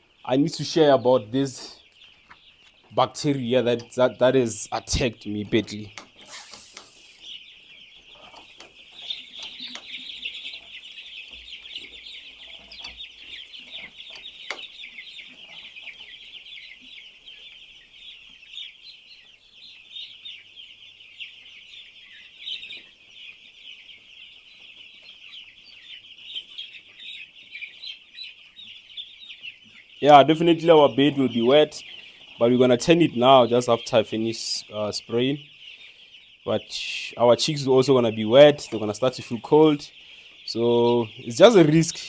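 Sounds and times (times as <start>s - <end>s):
chicks peeping: 0.0s - 42.0s.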